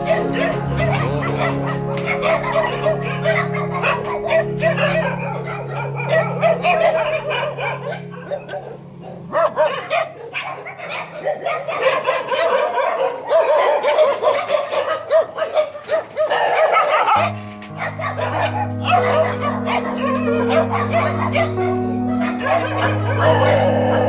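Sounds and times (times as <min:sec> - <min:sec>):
many dogs barking and yipping: 0:00.0 - 0:24.0.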